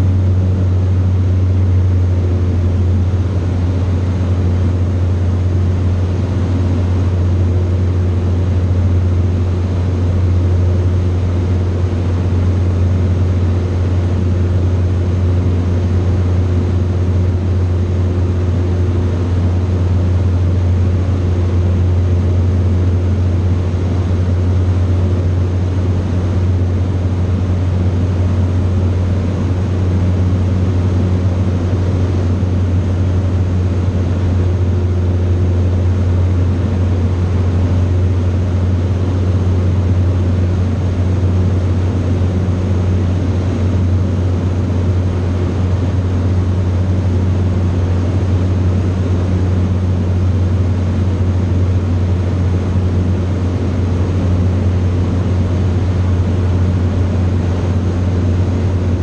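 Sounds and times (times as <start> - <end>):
aircraft engine droning: 0.0 - 59.0.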